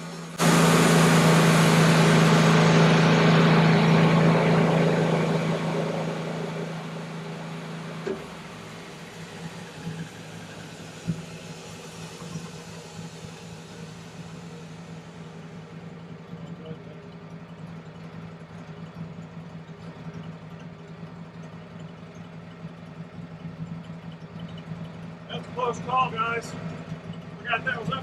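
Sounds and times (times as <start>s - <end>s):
sawmill humming: 0.0s - 28.0s.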